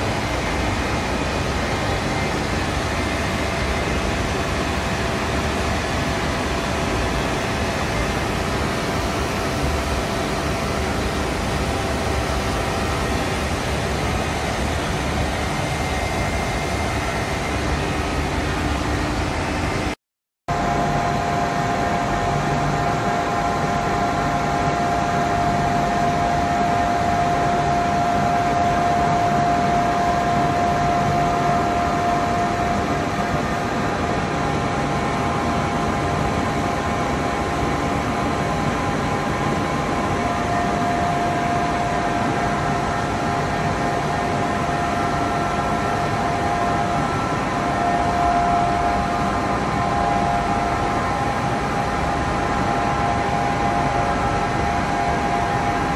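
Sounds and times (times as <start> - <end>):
machinery drone: 0.0 - 55.9.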